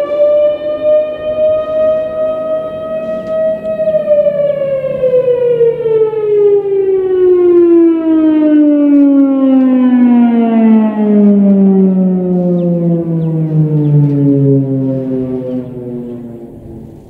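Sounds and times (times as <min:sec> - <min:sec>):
warning siren winding down: 0:00.0 - 0:17.0.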